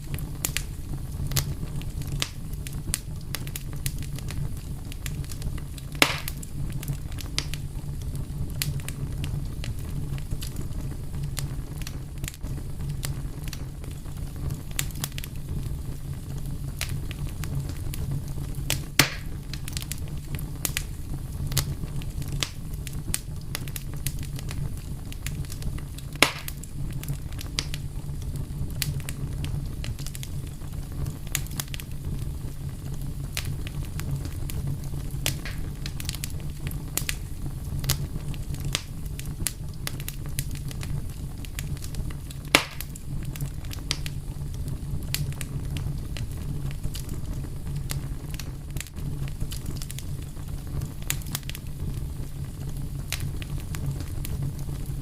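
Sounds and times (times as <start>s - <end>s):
loud fire pops: 0.0s - 55.0s
low rumble of burning: 0.0s - 55.0s
wood fire crackling: 0.0s - 55.0s.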